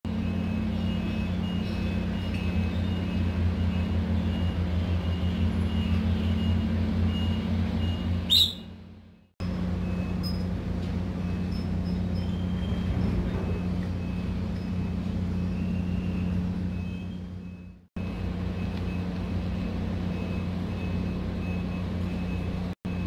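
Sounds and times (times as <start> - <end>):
low pulsing mechanical hum: 0.1 - 23.0.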